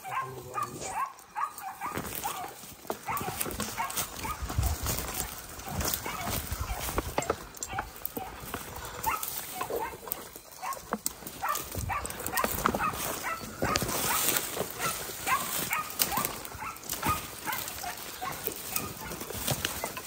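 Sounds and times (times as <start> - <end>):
dog barking: 0.0 - 19.6.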